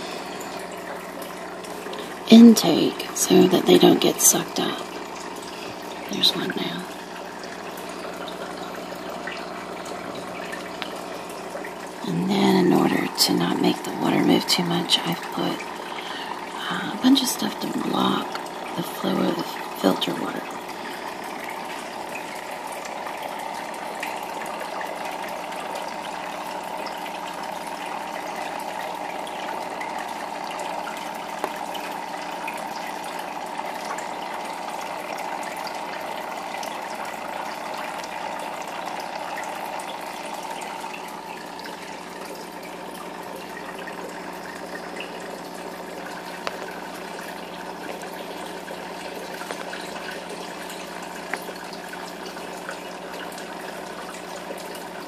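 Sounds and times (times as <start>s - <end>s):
low steady hum: 0.0s - 55.0s
water trickling from filter: 0.0s - 55.0s.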